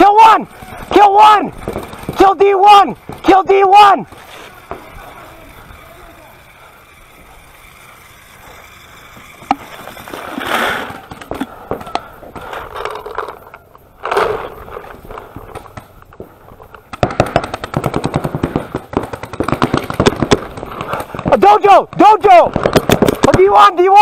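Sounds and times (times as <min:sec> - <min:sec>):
paintball marker firing rapidly: 0:00.0 - 0:12.5, 0:16.8 - 0:24.0.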